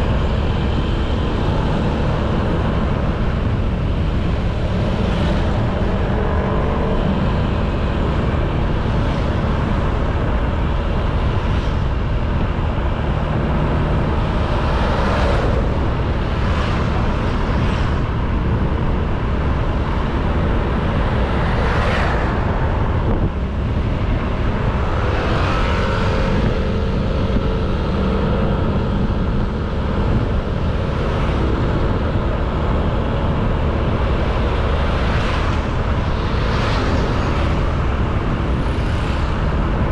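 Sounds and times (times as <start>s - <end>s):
traffic whooshing past: 0.0s - 39.9s
wind rumble on microphone: 0.0s - 39.9s.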